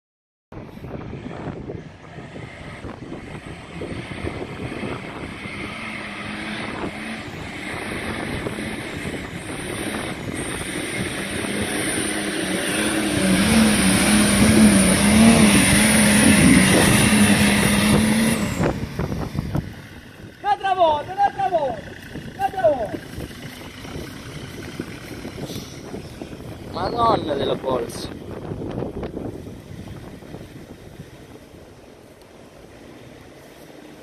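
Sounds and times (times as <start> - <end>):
diesel engine under load: 0.8 - 34.0.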